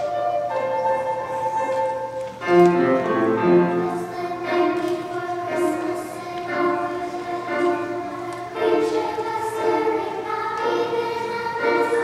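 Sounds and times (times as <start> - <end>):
children's choir singing: 0.0 - 12.0.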